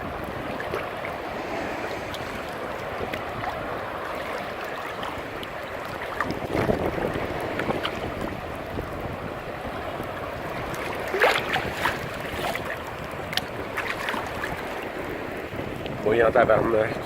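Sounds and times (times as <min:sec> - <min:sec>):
ocean surf washing: 0:00.0 - 0:17.0
wind buffeting microphone: 0:00.0 - 0:17.0.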